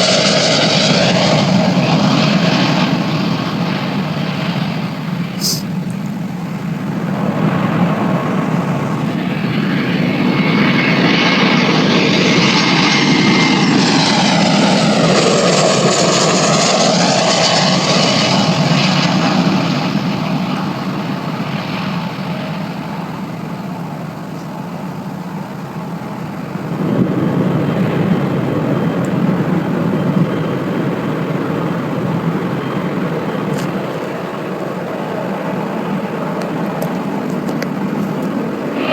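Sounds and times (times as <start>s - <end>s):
airliner engine noise: 0.0s - 38.9s.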